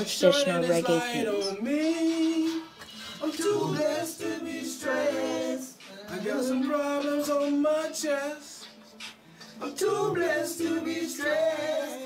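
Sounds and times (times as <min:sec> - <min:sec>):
men singing a cappella: 0:00.0 - 0:12.0.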